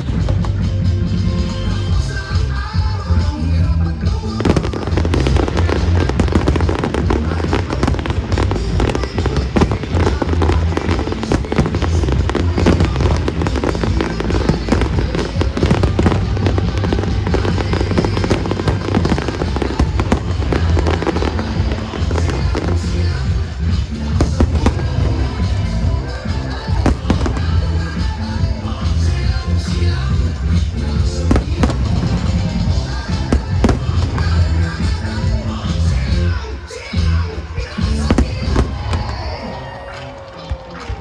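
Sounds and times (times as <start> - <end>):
fireworks bangs and crackles: 0.0 - 41.0
music with heavy bass: 0.0 - 41.0.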